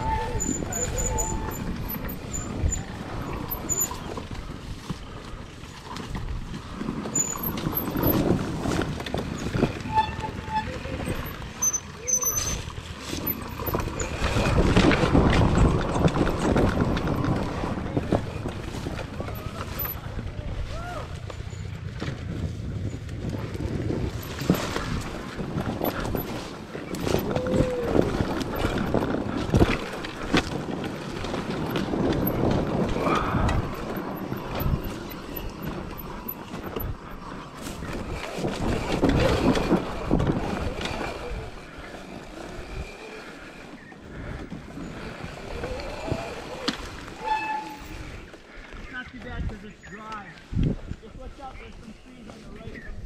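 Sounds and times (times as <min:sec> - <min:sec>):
bike rattling over bumps: 0:00.0 - 0:53.0
tyre noise on dirt: 0:00.0 - 0:53.0.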